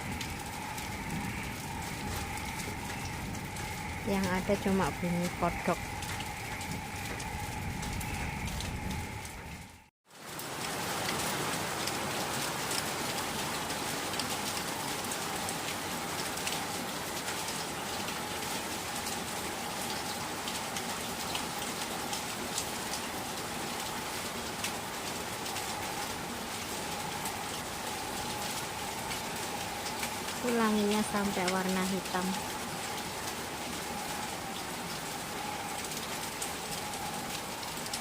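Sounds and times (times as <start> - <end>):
raindrops ticking on surfaces: 0.0 - 38.0
steady rain falling: 0.0 - 38.0.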